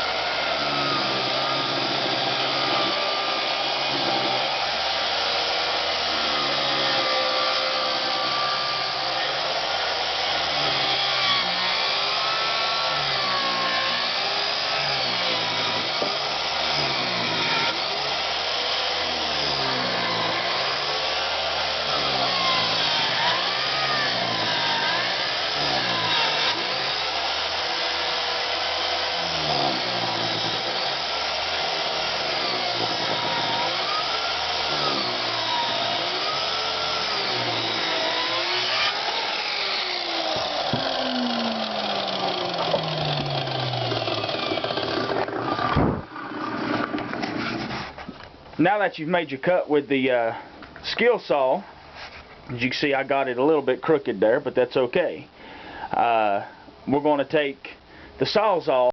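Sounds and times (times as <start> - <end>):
circular saw cutting wood: 0.0 - 48.2.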